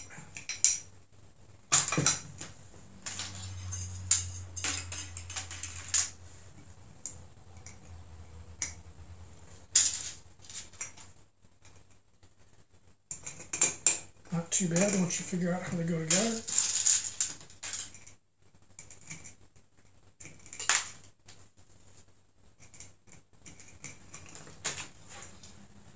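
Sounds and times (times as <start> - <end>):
faint low hum: 0.0 - 25.9.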